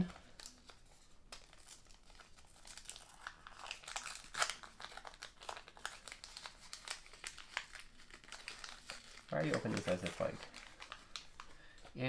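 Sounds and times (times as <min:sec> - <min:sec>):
paper packet crinkling: 0:00.0 - 0:12.0.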